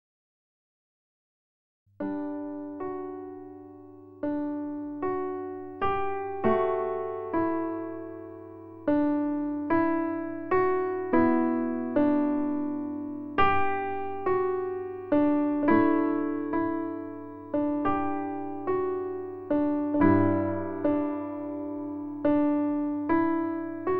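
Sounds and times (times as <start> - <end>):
soft solo piano: 2.0 - 23.9.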